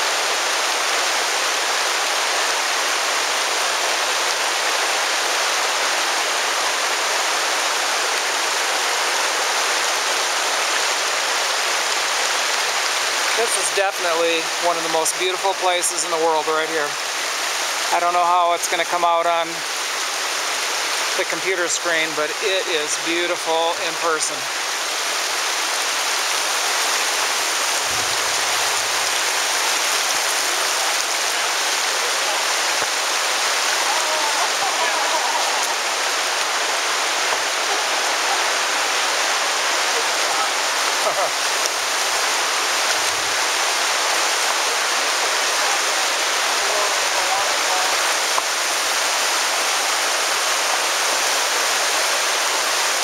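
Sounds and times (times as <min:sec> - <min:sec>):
river running over rocks: 0:00.0 - 0:53.0.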